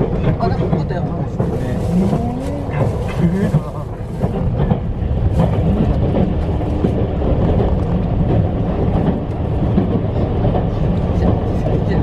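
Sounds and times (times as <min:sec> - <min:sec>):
vehicle running rumble: 0:00.0 - 0:12.0.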